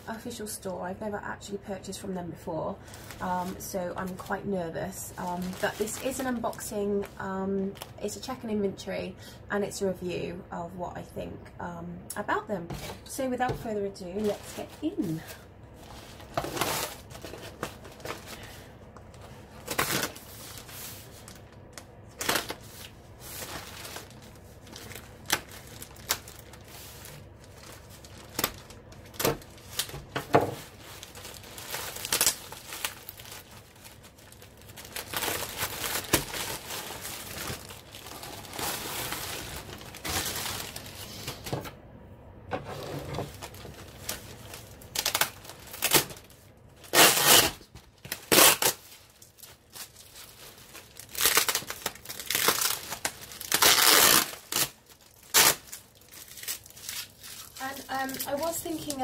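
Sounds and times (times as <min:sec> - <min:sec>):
plastic bag crinkling and tearing: 0:02.8 - 0:08.2, 0:14.1 - 0:41.5, 0:43.2 - 0:59.0.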